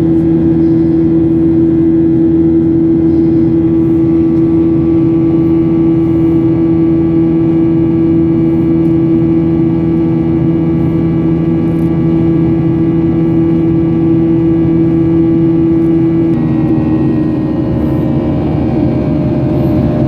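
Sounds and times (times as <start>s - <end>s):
jet engines droning: 0.0s - 20.0s.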